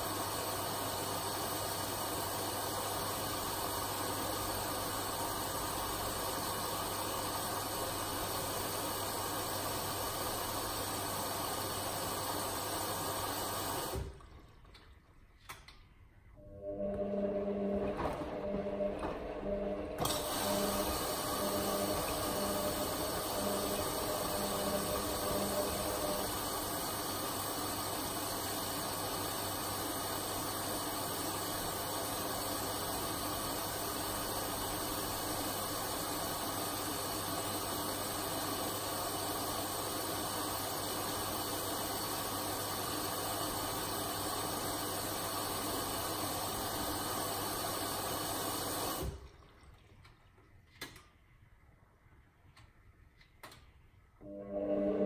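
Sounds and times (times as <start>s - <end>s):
water running into washing machine: 0.0s - 14.7s, 16.7s - 50.0s.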